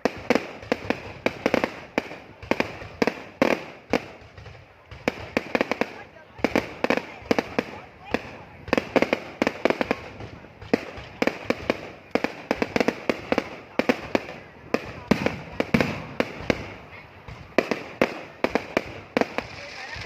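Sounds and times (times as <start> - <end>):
deep booming fireworks bursts: 0.0 - 20.0
fireworks bangs and cracks: 0.0 - 20.0.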